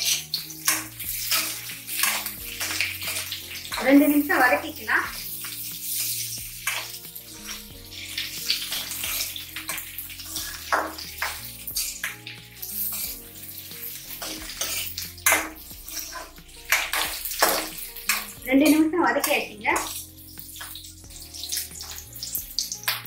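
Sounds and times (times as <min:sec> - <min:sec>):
spoon scraping metal pan: 0:00.0 - 0:23.0
vegetables sizzling in oil: 0:00.0 - 0:23.0.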